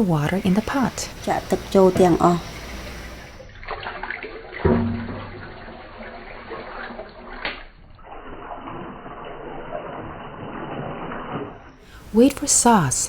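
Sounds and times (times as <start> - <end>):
water pouring into a pot: 0.0 - 11.8.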